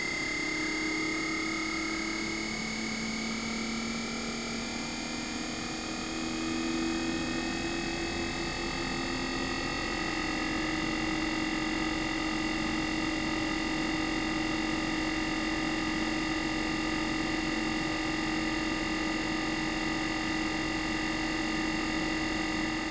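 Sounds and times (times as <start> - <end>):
air conditioner compressor whine: 0.0 - 22.9.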